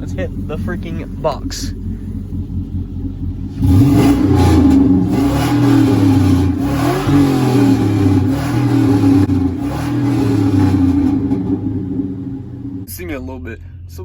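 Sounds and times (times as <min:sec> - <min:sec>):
pickup truck engine revving: 0:00.0 - 0:12.9.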